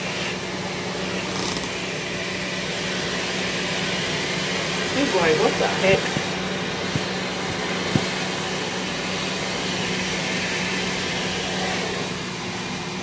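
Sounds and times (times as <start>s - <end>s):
blow dryer blowing air: 0.0s - 13.0s.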